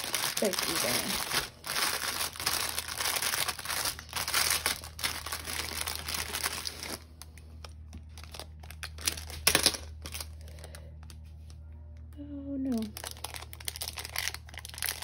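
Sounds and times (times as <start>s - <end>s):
packaging crinkling: 0.0s - 11.3s, 12.7s - 15.0s.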